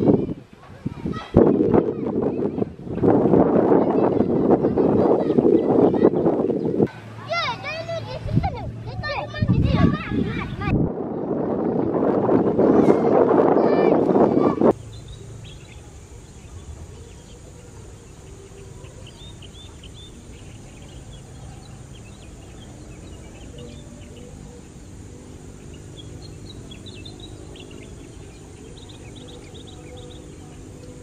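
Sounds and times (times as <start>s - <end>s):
birds chirping: 0.9s - 31.0s.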